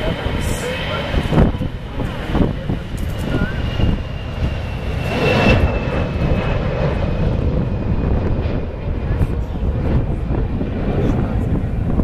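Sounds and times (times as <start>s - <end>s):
jet engines roaring at takeoff: 0.0s - 12.0s.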